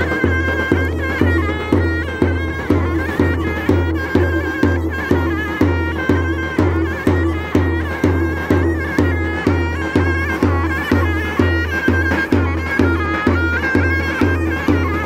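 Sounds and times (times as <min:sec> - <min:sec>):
deep drum beat: 0:00.0 - 0:15.0
reed pipe melody: 0:00.0 - 0:15.0.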